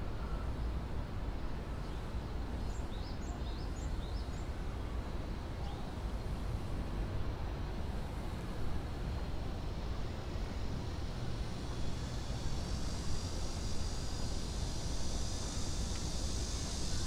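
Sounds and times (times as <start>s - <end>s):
city background rumble: 0.0s - 17.0s.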